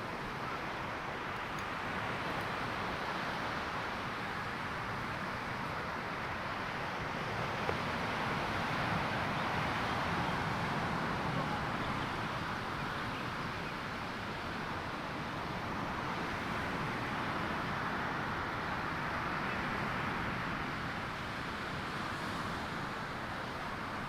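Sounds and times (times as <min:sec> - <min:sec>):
surf washing on a beach: 0:00.0 - 0:24.0.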